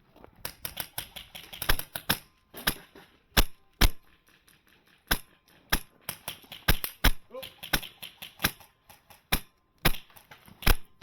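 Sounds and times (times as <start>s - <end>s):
airsoft rifle shots: 0.5s - 4.1s, 5.1s - 11.0s.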